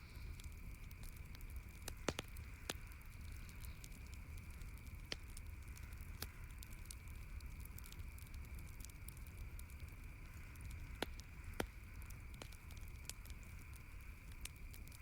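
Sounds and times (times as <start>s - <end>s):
background hiss: 0.0s - 15.0s
campfire crackling: 0.0s - 15.0s.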